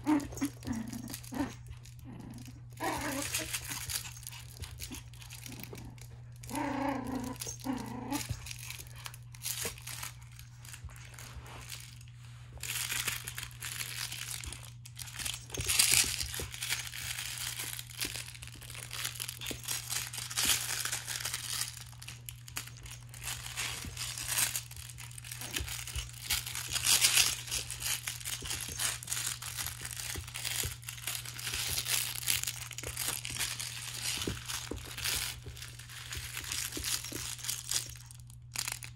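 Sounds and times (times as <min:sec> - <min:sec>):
plush toy crinkling: 0:00.0 - 0:38.9.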